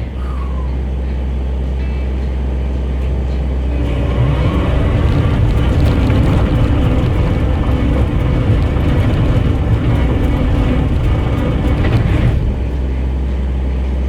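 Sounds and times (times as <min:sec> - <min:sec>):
skid steer engine rattly drone: 0:00.0 - 0:14.0.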